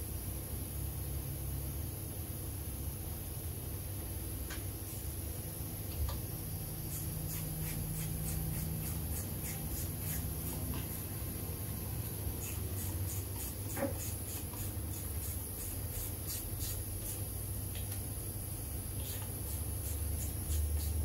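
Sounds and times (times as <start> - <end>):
low workshop hum: 0.0 - 21.0.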